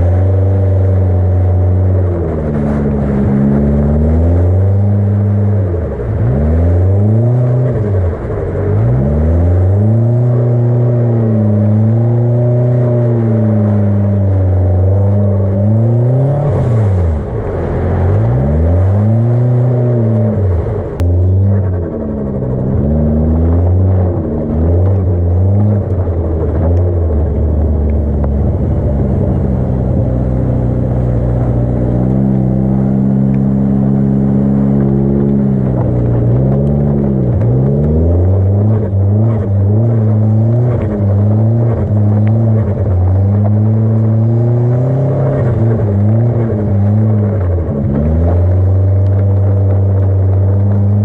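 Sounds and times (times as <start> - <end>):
car engine revving hard: 0.0 - 51.0.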